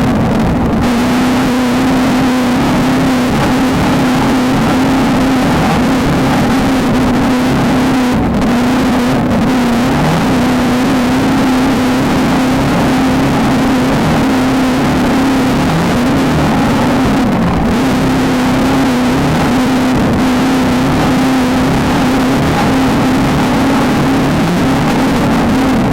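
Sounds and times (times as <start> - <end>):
constant rushing noise: 0.0 - 25.9
race car engine revving high: 0.0 - 25.9.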